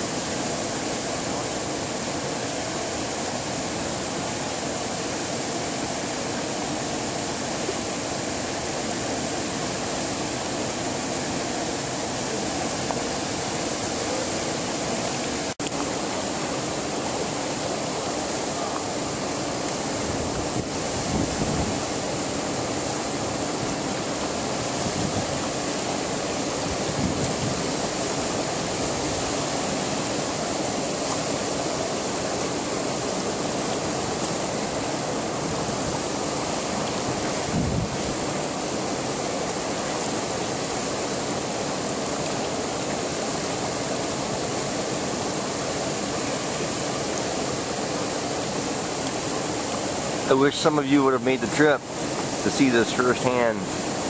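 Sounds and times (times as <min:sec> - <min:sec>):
water rushing through rapids: 0:00.0 - 0:54.0.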